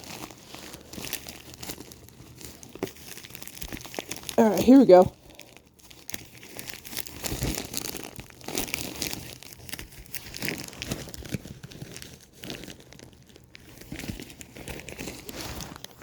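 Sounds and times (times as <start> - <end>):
packaging crinkling and tearing: 0.0 - 16.0.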